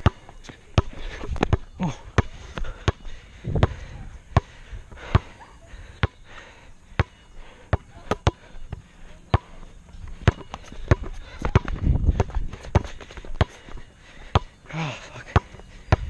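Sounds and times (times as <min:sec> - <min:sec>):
basketball bouncing on asphalt: 0:00.0 - 0:05.4, 0:06.0 - 0:06.2, 0:07.0 - 0:16.0.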